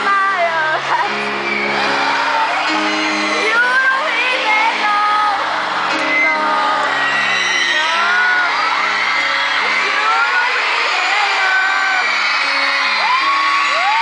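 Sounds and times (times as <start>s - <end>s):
crowd screaming and whooping: 0.0s - 14.0s
grand piano chords: 0.0s - 14.0s.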